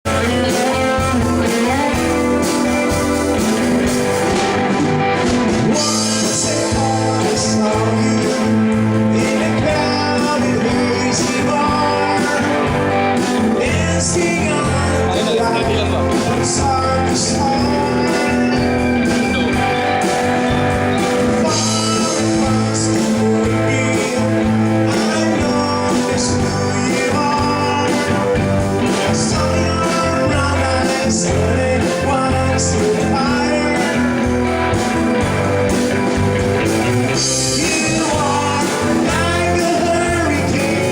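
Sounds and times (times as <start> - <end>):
guitar rock music: 0.0 - 40.9.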